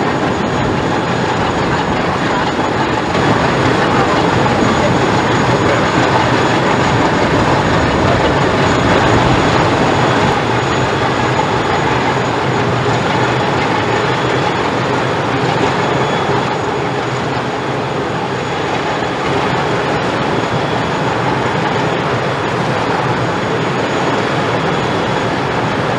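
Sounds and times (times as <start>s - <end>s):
ship diesel engine rumbling: 0.0s - 25.9s.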